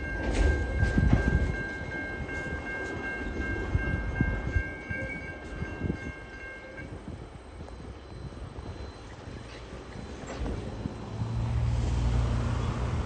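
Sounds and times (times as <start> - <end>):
steady high ringing tone: 0.0 - 11.5
freight train rolling on rails: 0.0 - 13.0.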